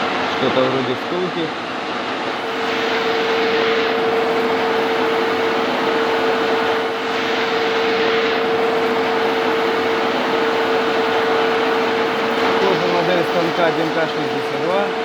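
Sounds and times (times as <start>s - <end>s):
metal lathe running: 0.0s - 15.0s
spindle drive whine: 0.0s - 15.0s.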